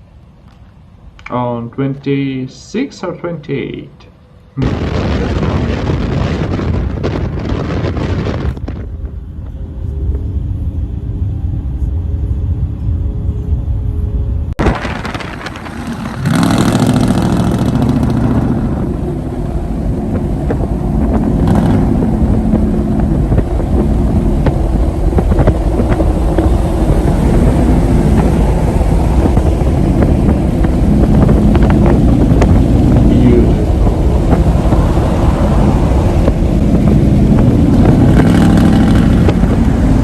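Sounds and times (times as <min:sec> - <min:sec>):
pickup truck engine rumbling: 0:04.6 - 0:40.0.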